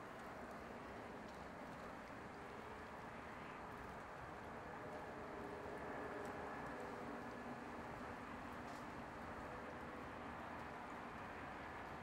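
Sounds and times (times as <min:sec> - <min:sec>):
wind and rain hiss: 0:00.0 - 0:12.0.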